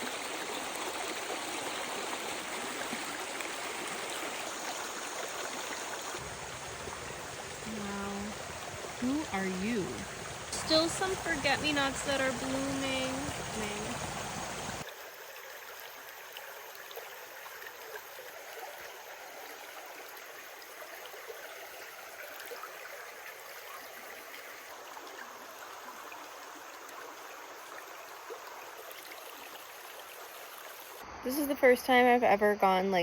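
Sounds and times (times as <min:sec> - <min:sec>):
creek babbling and trickling: 0:00.0 - 0:33.0.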